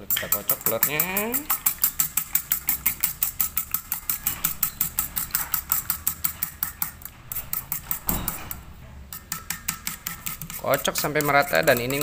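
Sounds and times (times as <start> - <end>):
fork beating eggs in metal bowl: 0.0 - 12.0.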